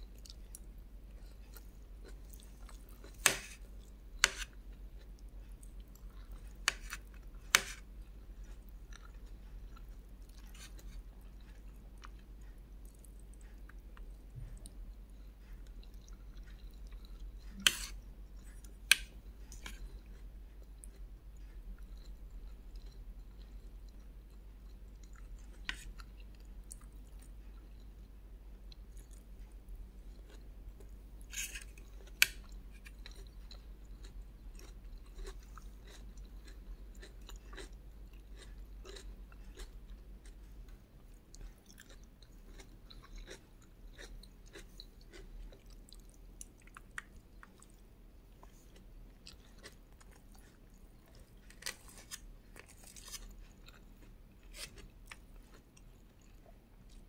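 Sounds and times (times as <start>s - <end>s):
chewing with wet mouth sounds: 0.0s - 57.0s.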